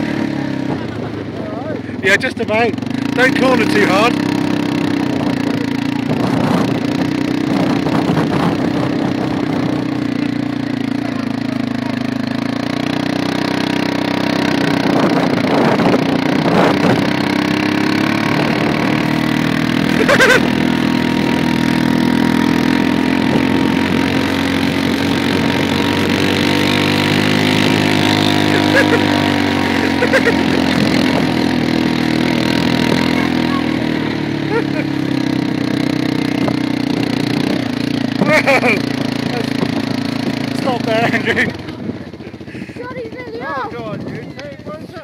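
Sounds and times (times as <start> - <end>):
quad bike engine under load: 0.0 - 45.0.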